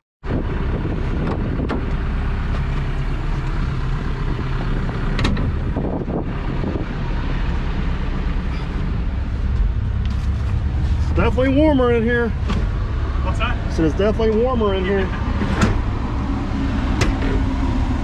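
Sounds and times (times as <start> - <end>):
diesel engine idling: 0.3 - 18.0.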